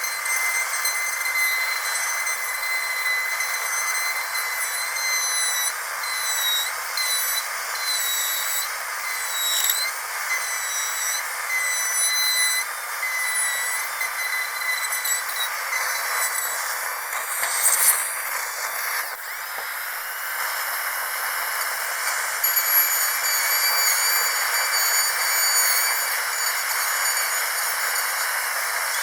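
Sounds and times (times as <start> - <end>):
dentist's drill whining: 0.0 - 29.0.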